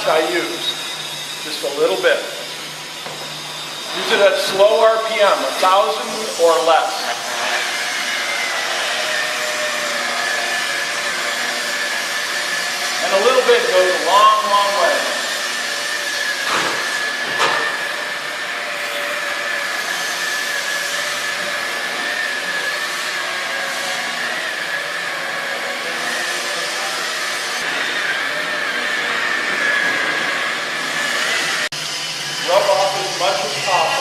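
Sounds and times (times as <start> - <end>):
electric polisher motor whine: 0.0 - 34.0.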